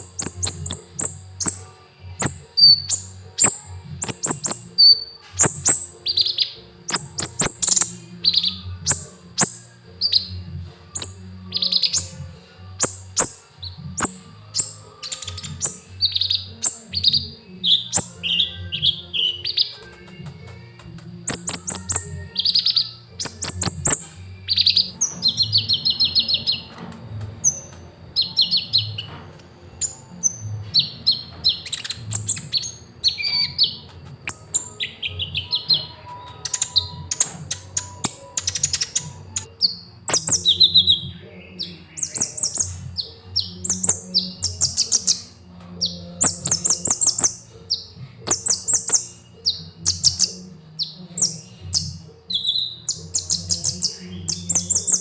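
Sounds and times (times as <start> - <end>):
sunbird singing trilled chirps: 0.0 - 26.8, 27.4 - 29.1, 29.8 - 55.0.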